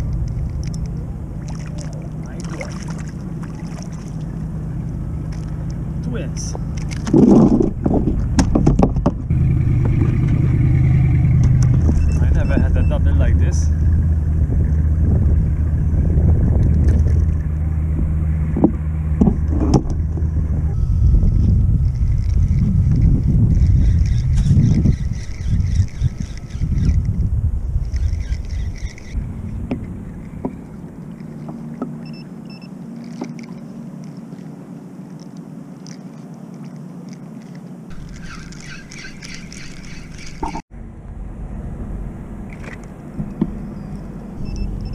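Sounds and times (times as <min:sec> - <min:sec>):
water splashing: 0:00.0 - 0:08.6, 0:09.5 - 0:20.6, 0:21.5 - 0:27.2, 0:27.8 - 0:40.7
water lapping against kayak hull: 0:00.0 - 0:12.9, 0:13.8 - 0:40.6
boat engine droning: 0:00.0 - 0:44.9.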